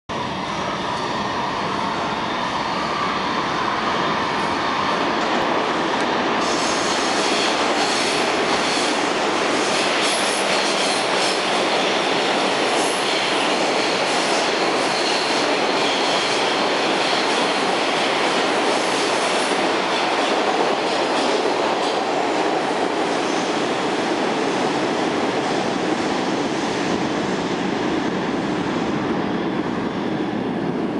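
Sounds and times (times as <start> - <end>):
steel wheels rushing on rail: 0.1 - 30.9
subway train passing: 0.1 - 30.9.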